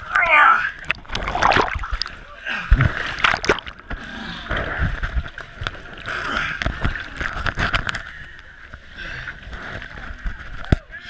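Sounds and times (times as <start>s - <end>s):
water sloshing and splashing: 0.0s - 10.8s.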